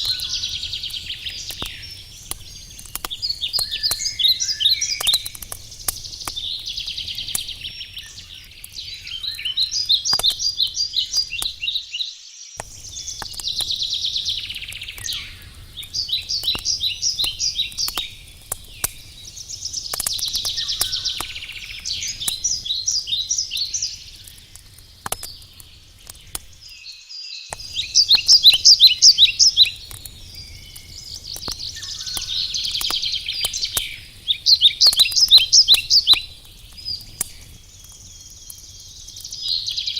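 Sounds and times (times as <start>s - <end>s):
campfire crackling: 0.0s - 11.8s, 12.6s - 26.8s, 27.5s - 39.9s
songbird warbling and trilling: 0.0s - 24.3s, 26.5s - 39.9s.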